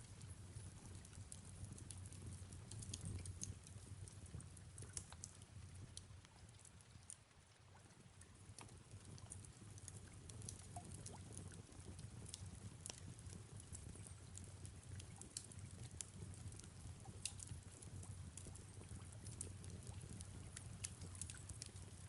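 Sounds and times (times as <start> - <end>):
soft rain falling: 0.0 - 22.0
fireplace crackling: 0.2 - 7.6, 8.2 - 22.0.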